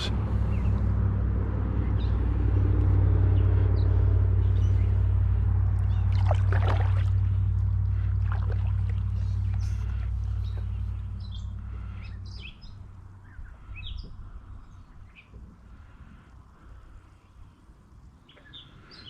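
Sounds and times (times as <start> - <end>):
small boat motor humming: 0.0 - 19.0.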